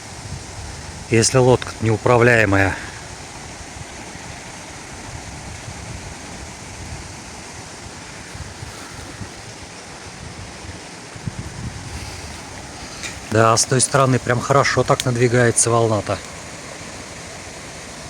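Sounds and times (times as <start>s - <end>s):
waves splashing and lapping: 0.0s - 18.0s
wind rumbling on microphone: 0.0s - 18.0s.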